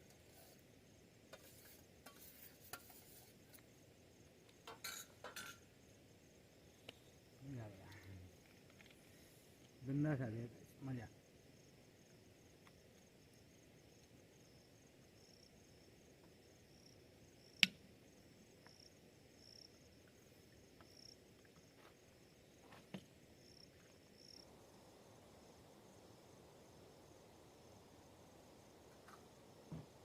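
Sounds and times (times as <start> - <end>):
night insects chirping: 0.0 - 30.0.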